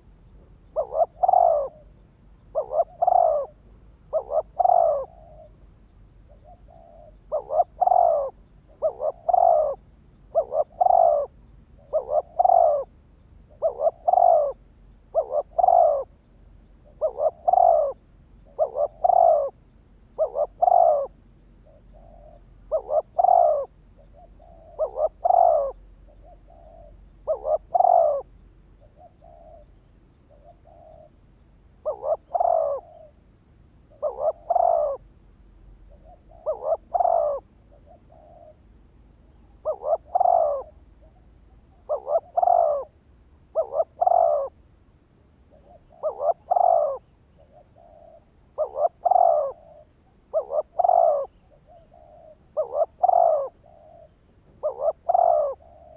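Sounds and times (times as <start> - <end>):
dove cooing: 0.0 - 31.2, 31.8 - 33.3, 33.9 - 35.1, 35.9 - 44.6, 45.4 - 55.9.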